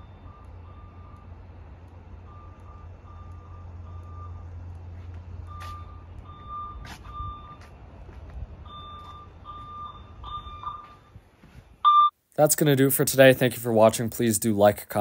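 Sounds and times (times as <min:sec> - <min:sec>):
distant fire alarm beeps: 0:00.0 - 0:12.2.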